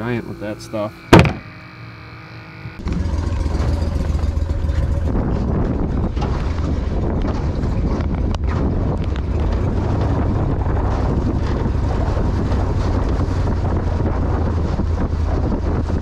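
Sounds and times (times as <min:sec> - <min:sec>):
boat motor drone: 0:00.0 - 0:16.0
wind buffeting microphone: 0:02.7 - 0:16.0.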